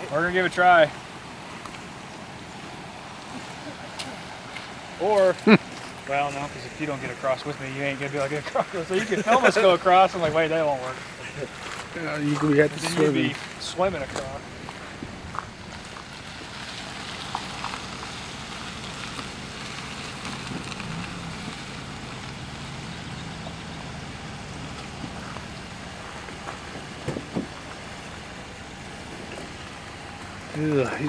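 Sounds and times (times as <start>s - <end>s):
steady rushing hiss: 0.0s - 31.0s
truck engine idling: 0.0s - 31.0s.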